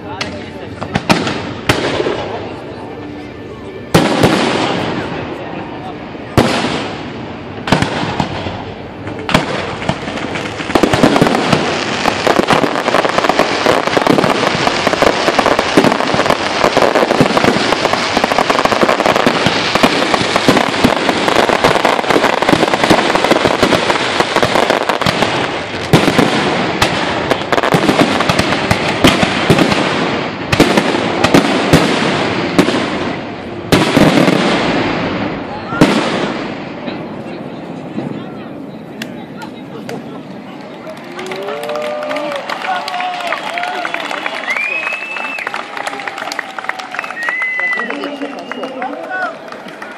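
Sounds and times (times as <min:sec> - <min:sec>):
firework bangs and crackling: 0:00.0 - 0:03.2, 0:03.8 - 0:49.9.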